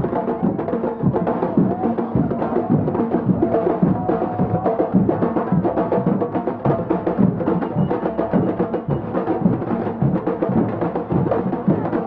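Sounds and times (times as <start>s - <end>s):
deep drum beats: 0.0s - 12.0s
hand drums percussion ensemble: 0.0s - 12.0s.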